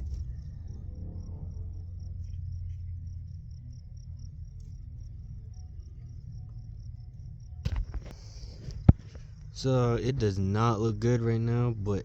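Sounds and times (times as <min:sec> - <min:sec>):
crickets chirping: 0:00.0 - 0:12.0
low rumble: 0:00.0 - 0:12.0.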